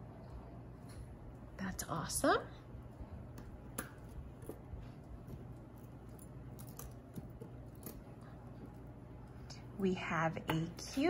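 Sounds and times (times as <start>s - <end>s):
faint room hum: 0.0s - 11.0s
jewelry clicking and clinking: 0.7s - 11.0s.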